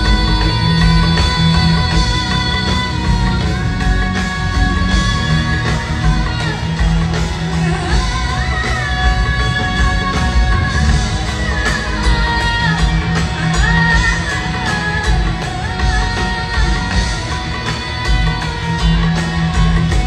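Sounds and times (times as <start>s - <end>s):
live band music: 0.0s - 20.0s
woman singing: 0.0s - 20.0s.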